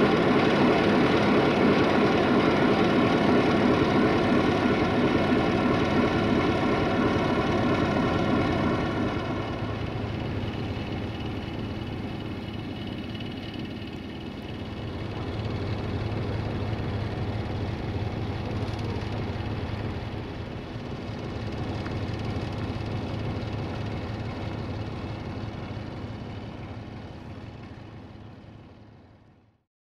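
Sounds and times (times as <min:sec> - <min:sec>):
locomotive diesel engine humming: 0:00.0 - 0:29.3.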